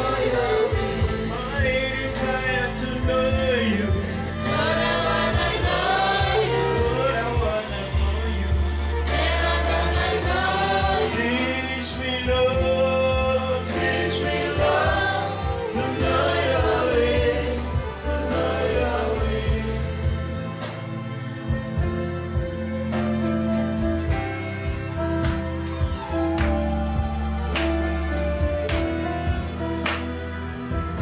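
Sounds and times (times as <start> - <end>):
congregation and choir singing: 0.0 - 31.0
low bass notes: 0.0 - 31.0
violins: 0.0 - 31.0.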